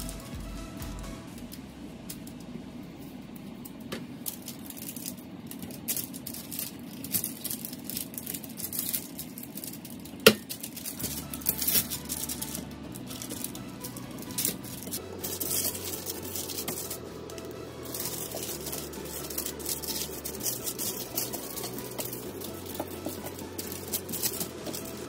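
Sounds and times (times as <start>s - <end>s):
baking paper crinkling: 4.0s - 25.0s.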